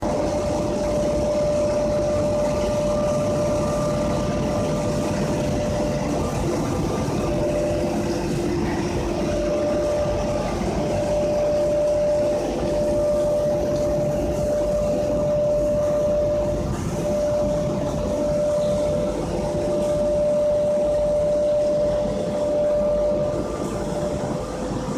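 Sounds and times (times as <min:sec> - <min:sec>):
grain dryer machine running: 0:00.0 - 0:24.9.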